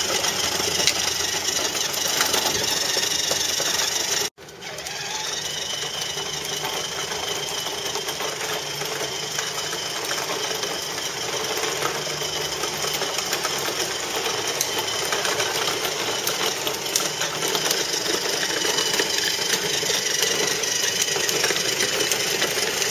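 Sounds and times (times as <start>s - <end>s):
toy car motor whirring: 0.0s - 22.9s
wheels rolling on concrete: 0.0s - 22.9s.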